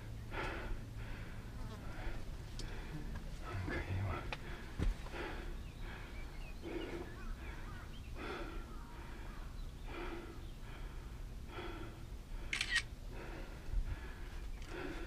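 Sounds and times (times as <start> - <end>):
person breathing heavily: 0.0 - 15.0.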